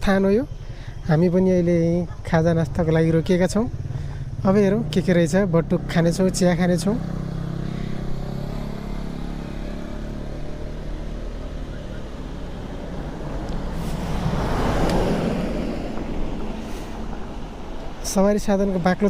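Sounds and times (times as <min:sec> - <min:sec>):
highway traffic hum: 0:00.0 - 0:19.0
vehicle passing by: 0:00.5 - 0:19.0.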